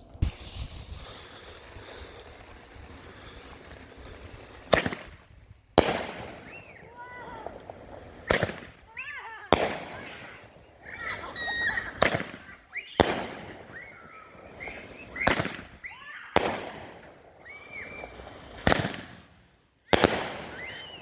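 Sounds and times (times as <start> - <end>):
firework bangs: 0.0 - 21.0.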